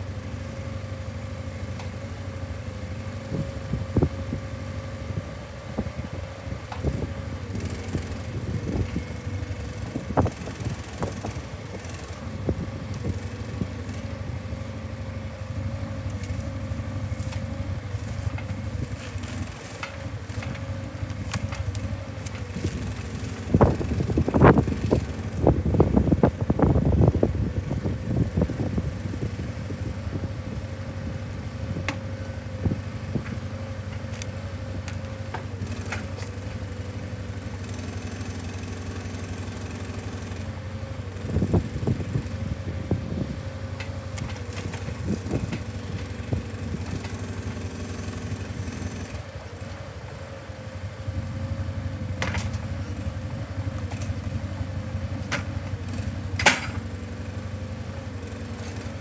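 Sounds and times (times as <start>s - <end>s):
engine running: 0.0s - 59.0s
hydraulic crane whine: 0.0s - 59.0s.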